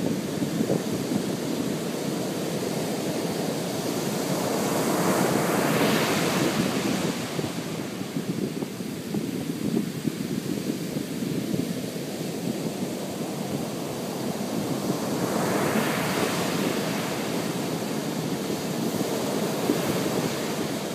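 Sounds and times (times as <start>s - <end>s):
ocean surf on beach: 0.0s - 20.9s
wind on microphone: 0.0s - 20.9s.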